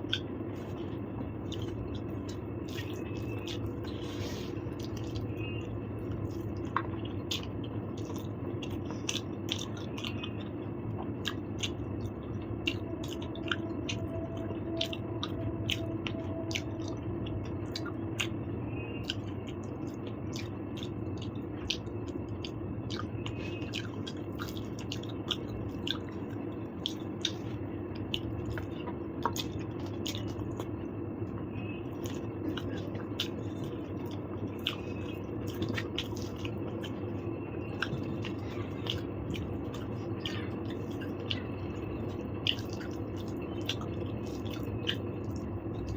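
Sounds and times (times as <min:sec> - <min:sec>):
low background hum: 0:00.0 - 0:45.9
person chewing with wet mouth sounds: 0:00.0 - 0:45.9.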